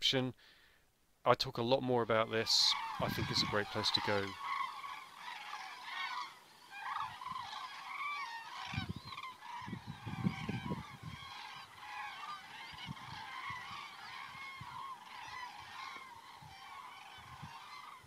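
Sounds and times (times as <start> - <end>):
cranes calling: 2.2 - 18.0.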